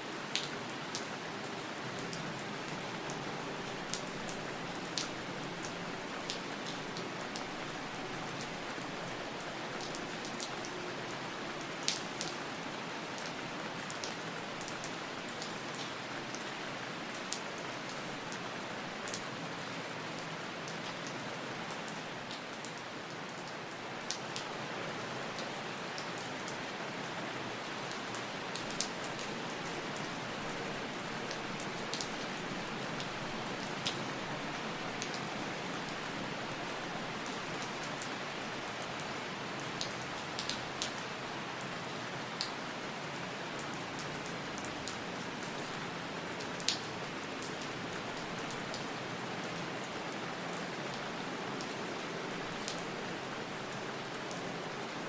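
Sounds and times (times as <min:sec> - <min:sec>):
steady rain falling: 0:00.0 - 0:55.0
raindrops striking a surface: 0:00.2 - 0:42.6, 0:43.6 - 0:48.9.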